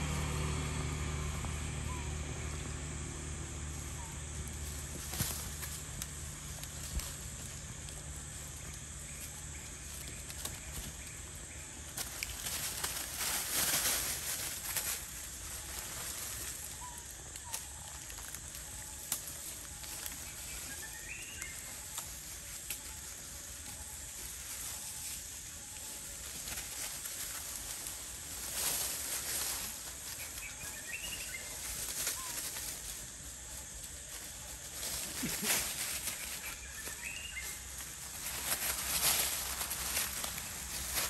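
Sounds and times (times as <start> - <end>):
monkeys scampering on dry leaves: 0.0 - 41.0.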